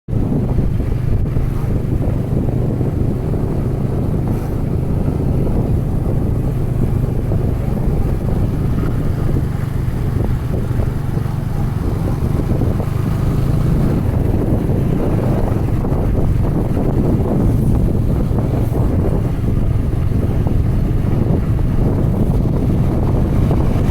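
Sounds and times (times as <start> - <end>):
motorcycle engine hum: 0.1 - 23.9
wind rumble on microphone: 0.1 - 23.9.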